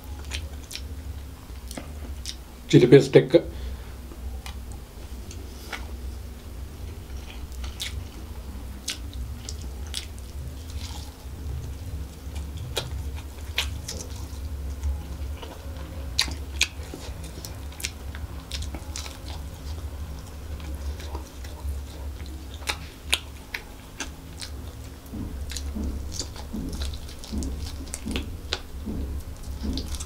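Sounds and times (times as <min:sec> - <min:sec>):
chewing with wet mouth clicks: 0:00.0 - 0:02.4, 0:06.8 - 0:30.0
steady low hum: 0:00.0 - 0:30.0.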